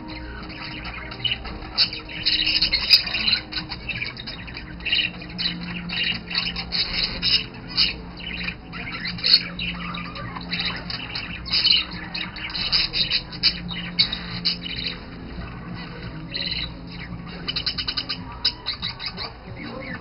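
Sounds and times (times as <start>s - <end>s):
budgerigars chattering and squawking: 0.0s - 20.0s.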